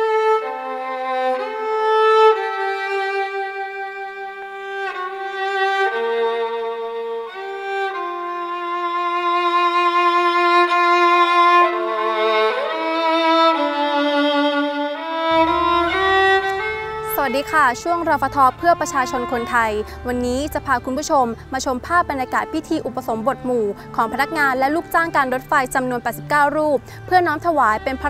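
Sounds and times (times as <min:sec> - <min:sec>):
slow music with long held notes: 0:00.0 - 0:28.0.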